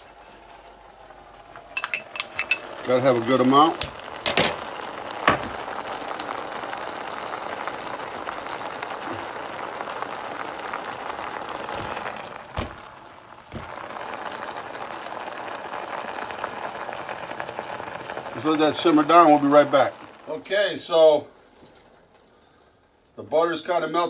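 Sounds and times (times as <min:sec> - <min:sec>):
water sizzling in pot: 0:00.0 - 0:22.6.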